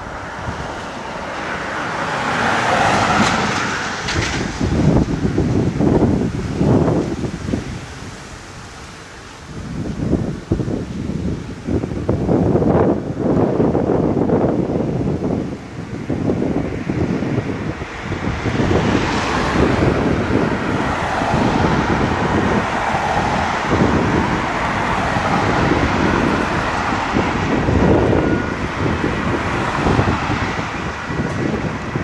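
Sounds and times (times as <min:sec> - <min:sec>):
road vehicle noise: 0:00.0 - 0:32.0
wind buffeting microphone: 0:00.0 - 0:32.0.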